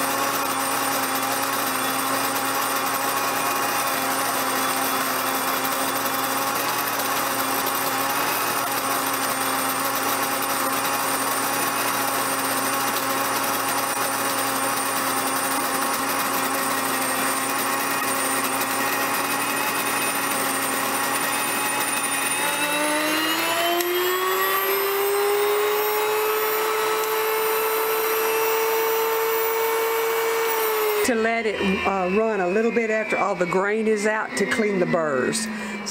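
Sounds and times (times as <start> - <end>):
electric grain mill whining: 0.0 - 35.9.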